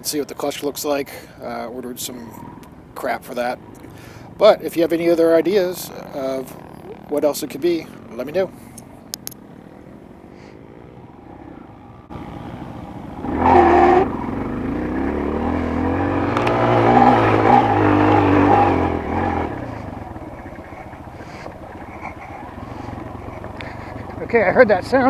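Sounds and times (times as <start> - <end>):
dirt bike engine revving: 1.4 - 25.0.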